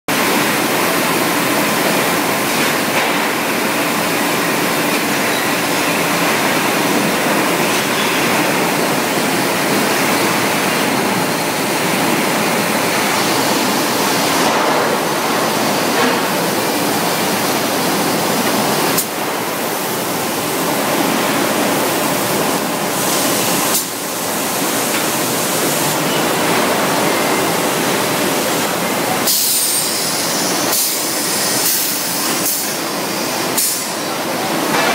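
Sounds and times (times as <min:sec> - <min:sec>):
factory industrial din: 0:00.1 - 0:34.9.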